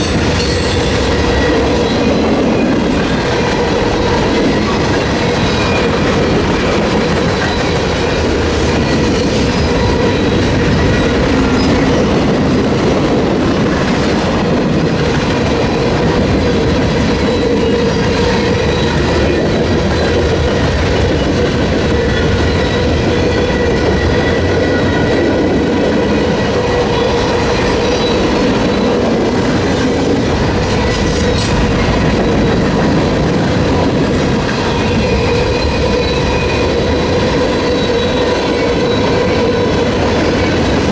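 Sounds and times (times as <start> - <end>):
freight train cars rolling: 0.0 - 40.9.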